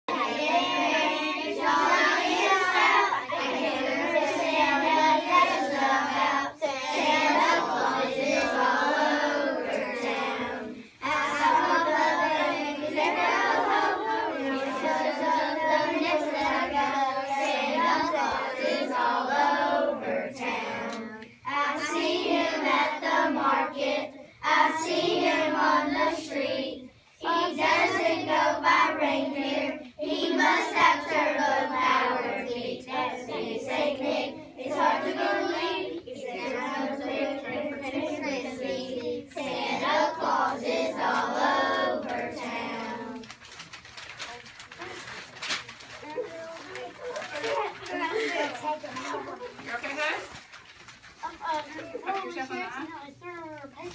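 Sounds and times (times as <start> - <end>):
children singing in unison: 0.1 - 43.3.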